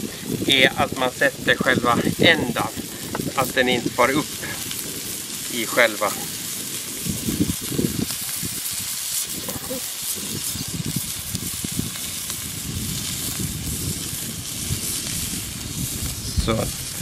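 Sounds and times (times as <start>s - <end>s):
sausages sizzling in a pan: 0.0s - 17.0s.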